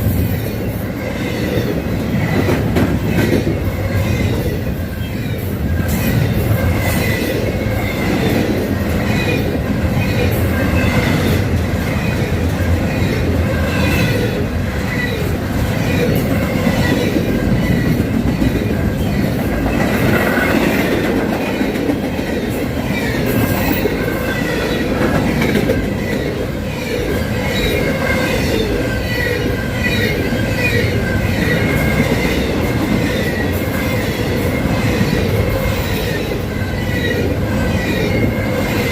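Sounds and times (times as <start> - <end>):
freight train rumbling: 0.0 - 38.9.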